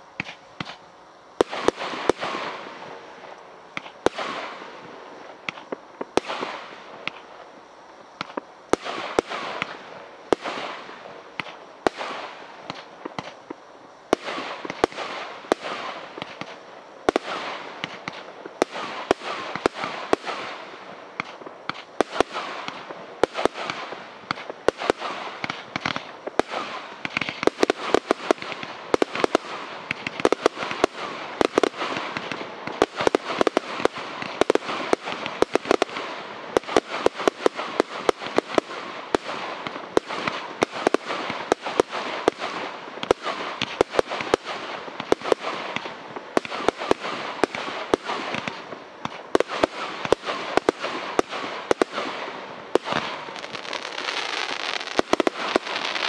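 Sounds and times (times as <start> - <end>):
firework cake shots: 0.1 - 2.6, 8.2 - 56.0.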